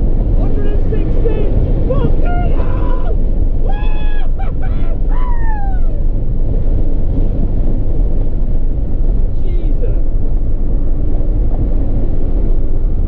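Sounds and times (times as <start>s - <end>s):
car cabin road and wind rumble: 0.0s - 13.0s.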